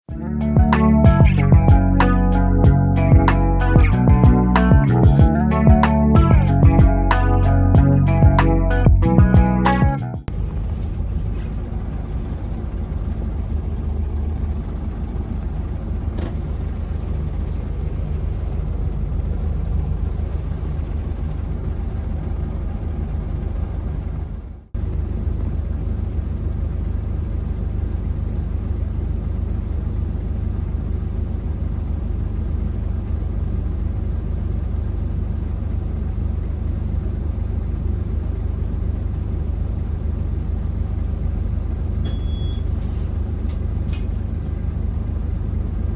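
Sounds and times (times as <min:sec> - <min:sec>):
diesel bus engine rumbling: 0:00.0 - 0:45.9.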